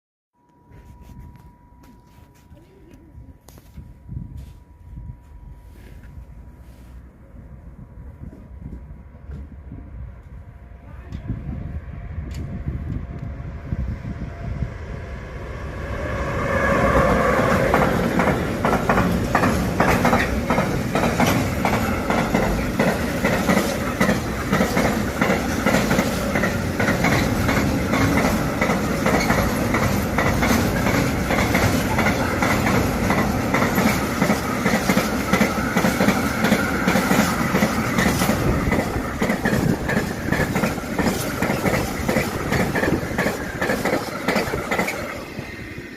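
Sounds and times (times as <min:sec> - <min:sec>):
freight train passing: 0:00.7 - 0:45.9.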